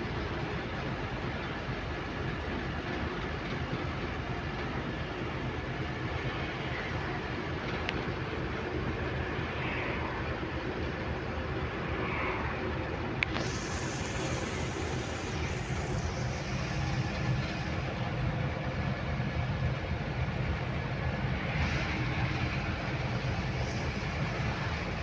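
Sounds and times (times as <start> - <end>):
truck engine and road drone: 0.0 - 25.0.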